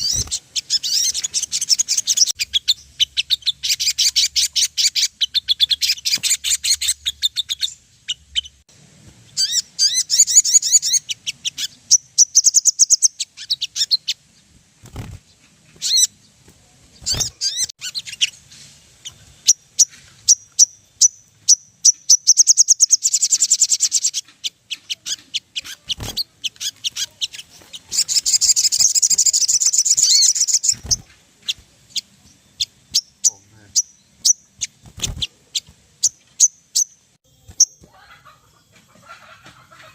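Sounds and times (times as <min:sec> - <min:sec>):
bird chittering and trilling: 0:00.0 - 0:08.6, 0:09.3 - 0:16.4, 0:17.0 - 0:39.9.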